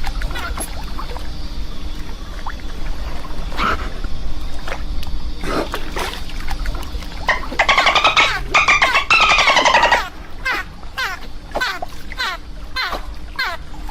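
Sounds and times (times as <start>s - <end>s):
steady low rumble: 0.0s - 13.9s
water: 0.0s - 13.9s
water splashing: 0.0s - 13.9s.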